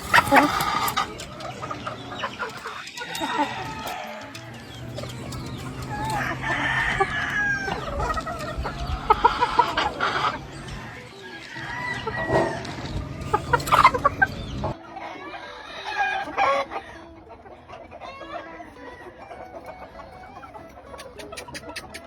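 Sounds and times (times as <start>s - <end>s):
rooster clucks: 0.0s - 22.0s
roosters crowing: 0.0s - 22.0s.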